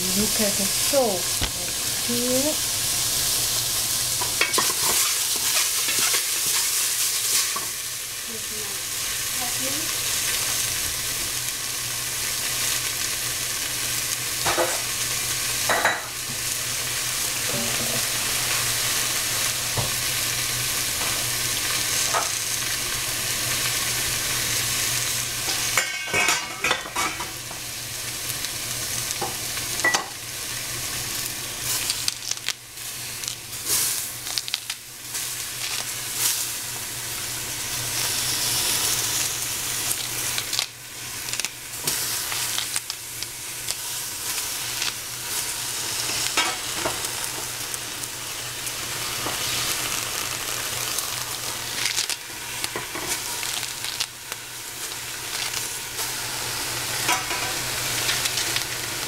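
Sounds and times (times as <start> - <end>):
tofu sizzling in a pot: 0.0 - 59.0.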